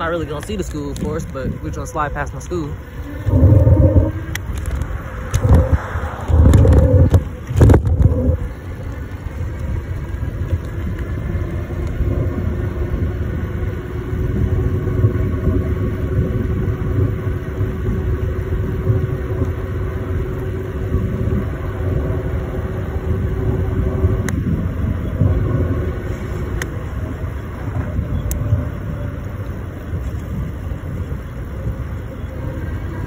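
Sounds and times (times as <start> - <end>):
wind and road rumble on microphone: 0.0 - 33.0.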